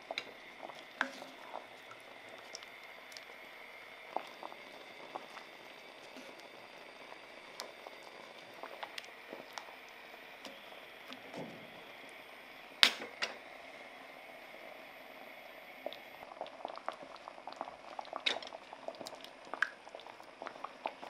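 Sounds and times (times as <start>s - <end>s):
sauce simmering and bubbling: 0.0s - 21.0s.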